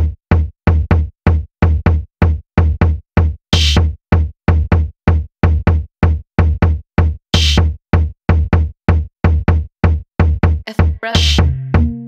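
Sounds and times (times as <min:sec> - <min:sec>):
drum machine beat: 0:00.0 - 0:12.0.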